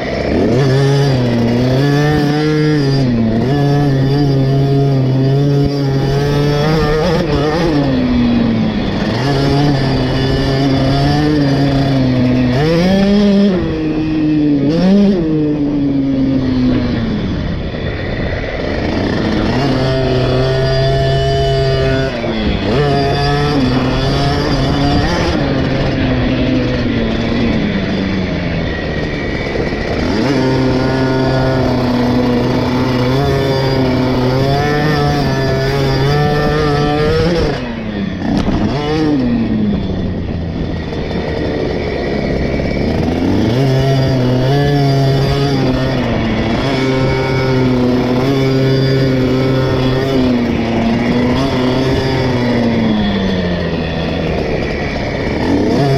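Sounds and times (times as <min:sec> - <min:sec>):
motocross engine revving: 0:00.0 - 0:55.9.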